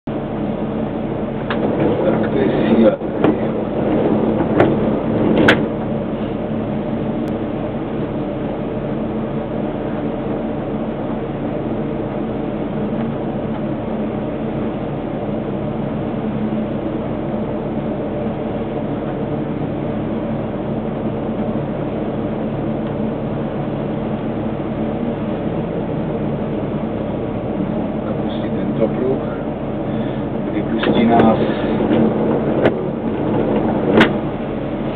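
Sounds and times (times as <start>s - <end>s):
tram equipment humming: 0.0s - 34.9s.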